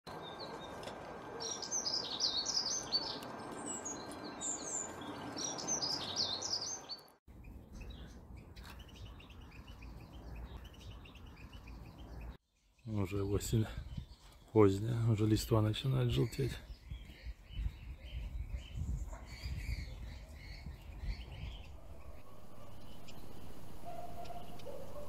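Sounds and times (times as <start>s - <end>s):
songbird twittering: 0.2s - 14.5s, 16.1s - 25.0s.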